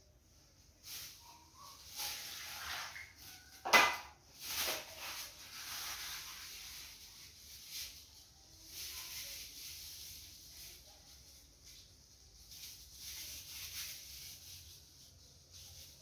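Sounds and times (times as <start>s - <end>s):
plastic bags rustling and crinkling: 0.3s - 16.0s.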